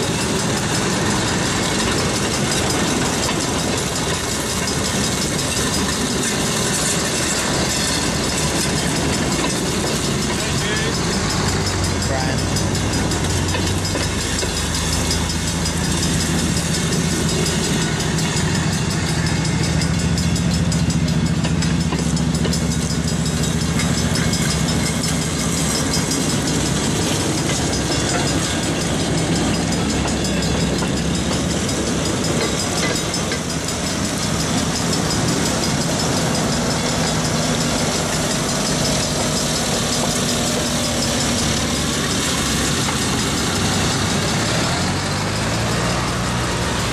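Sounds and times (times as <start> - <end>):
rail motor cars passing: 0.0 - 46.9.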